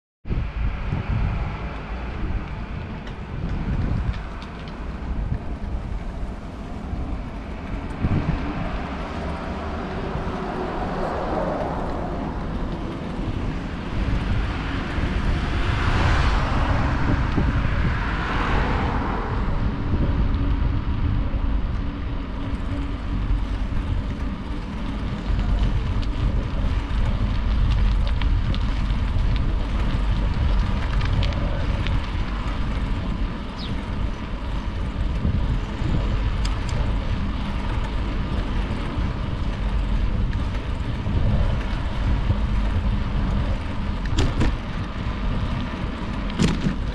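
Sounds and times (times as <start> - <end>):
wind buffeting microphone: 0.2 - 46.9.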